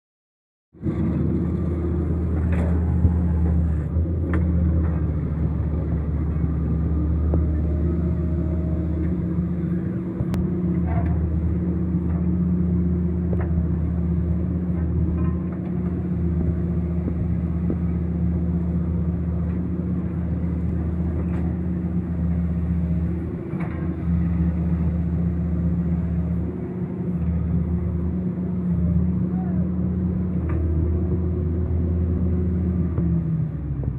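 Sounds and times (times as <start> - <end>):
diesel engine humming: 0.8 - 33.9.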